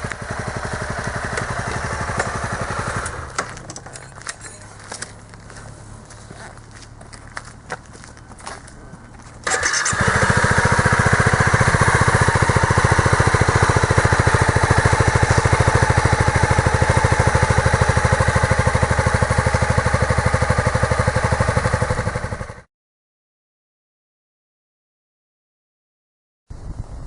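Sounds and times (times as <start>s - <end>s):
motorcycle engine idling: 0.0s - 22.7s.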